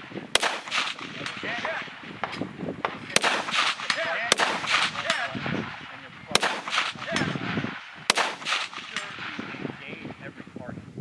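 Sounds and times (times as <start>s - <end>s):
gunshots: 0.0s - 9.8s.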